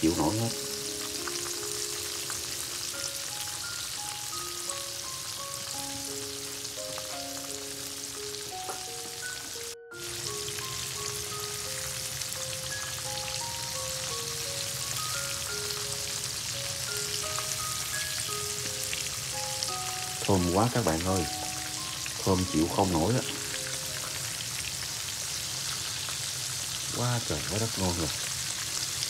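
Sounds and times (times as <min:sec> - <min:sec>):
melody of held notes: 0:00.0 - 0:25.4
oil sizzling: 0:00.0 - 0:29.0.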